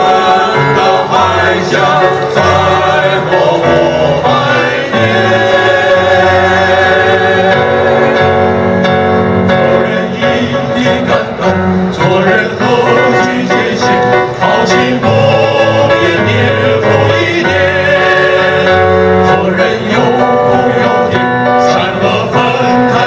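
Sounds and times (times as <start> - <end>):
electronic keyboard: 0.0 - 23.0
male voices singing in harmony: 0.0 - 23.0.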